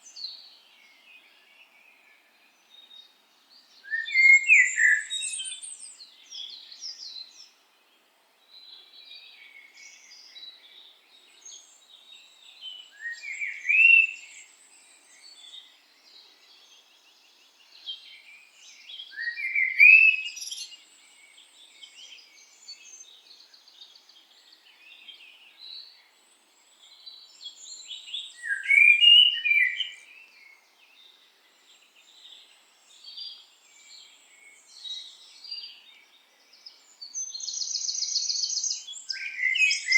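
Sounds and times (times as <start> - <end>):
loud bird song phrase: 0.0 - 39.9
songbirds chirping: 0.0 - 39.9.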